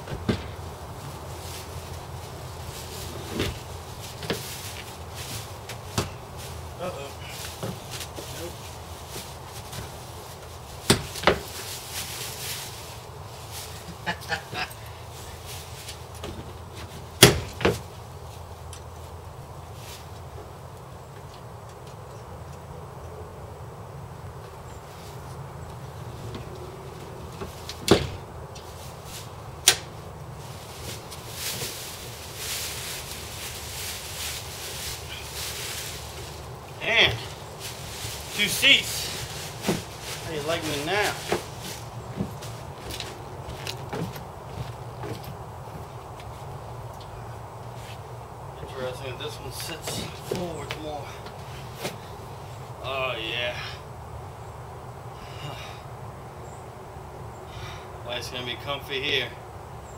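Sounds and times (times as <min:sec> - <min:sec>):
steady low rumble: 0:00.0 - 0:52.9
steady low hum: 0:00.0 - 0:59.9.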